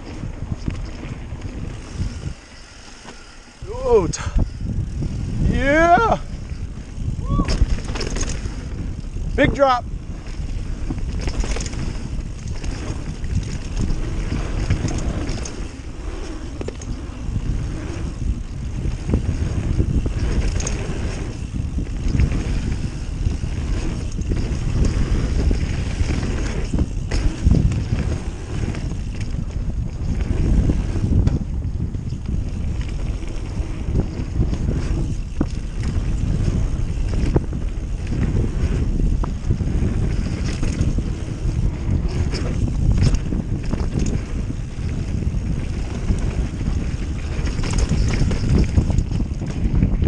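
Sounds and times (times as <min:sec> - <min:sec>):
bike knocks and rattles: 0:00.0 - 0:03.3, 0:04.2 - 0:50.0
tyre rumble: 0:00.0 - 0:50.0
wind rush on microphone: 0:00.0 - 0:50.0.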